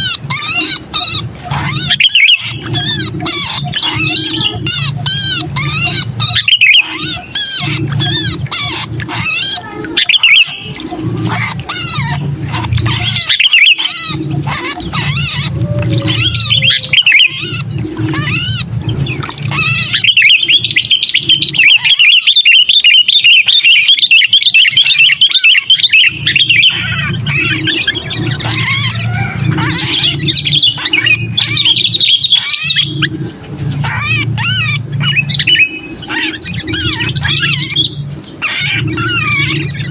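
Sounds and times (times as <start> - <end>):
bird harsh chattering calls: 0.0 - 39.9.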